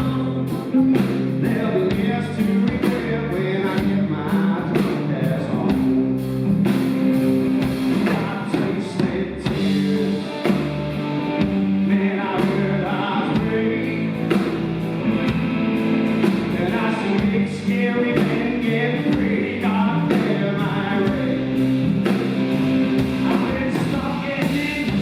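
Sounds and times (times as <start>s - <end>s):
person singing: 0.0s - 6.2s, 8.0s - 14.6s, 16.3s - 21.8s, 23.0s - 25.0s
live rock band playing: 0.0s - 25.0s.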